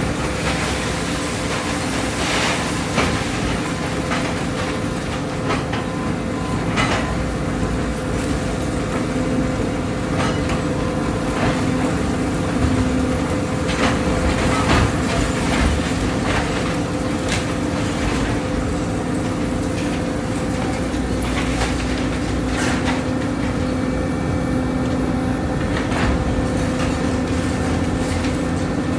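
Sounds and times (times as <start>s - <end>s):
debris knocking and cracking: 0.0s - 7.2s, 10.1s - 23.8s, 25.6s - 28.9s
excavator diesel engine: 0.0s - 28.9s.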